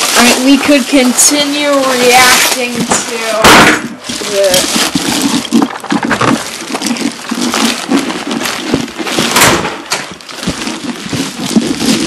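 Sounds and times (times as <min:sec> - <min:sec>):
packages rustling: 0:00.0 - 0:12.0
knocks and bumps: 0:01.9 - 0:12.0.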